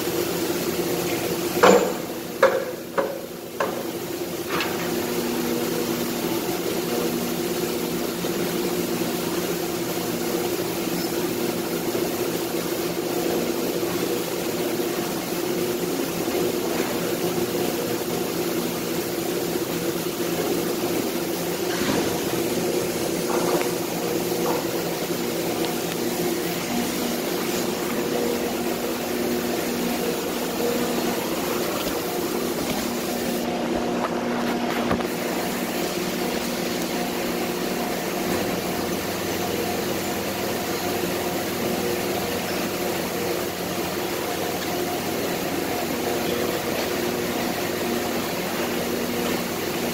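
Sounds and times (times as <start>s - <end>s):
factory machinery drone: 0.0s - 49.9s.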